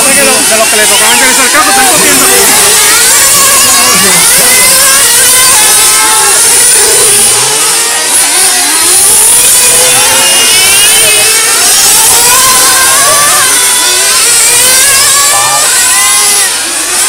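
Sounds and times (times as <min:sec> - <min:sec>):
rc car engines revving: 0:00.0 - 0:17.0.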